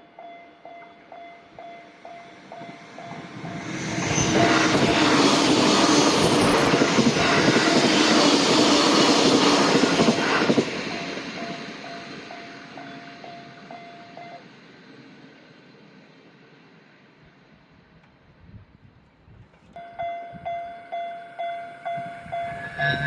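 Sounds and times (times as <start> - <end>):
electric train running: 0.0 - 16.6, 19.8 - 23.0.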